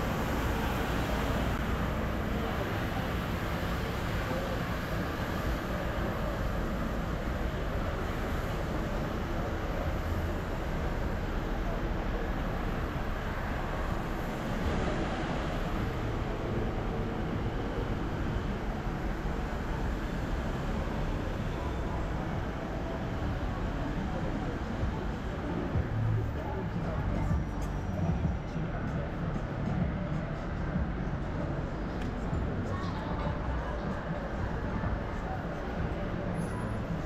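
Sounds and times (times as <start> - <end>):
road traffic: 0.0 - 37.0.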